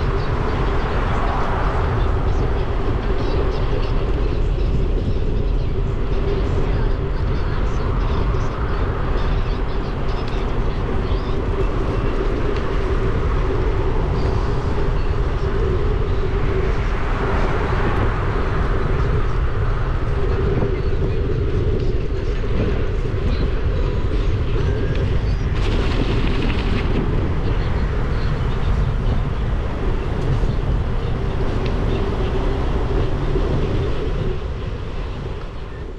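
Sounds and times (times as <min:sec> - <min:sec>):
wind and rolling tyres rumble: 0:00.0 - 0:35.9.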